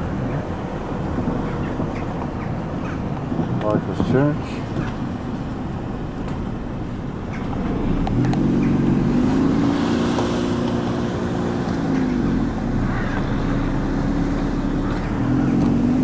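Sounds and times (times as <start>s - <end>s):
road noise: 0.0s - 16.0s
wind noise: 0.0s - 16.0s
car engine running: 1.0s - 16.0s.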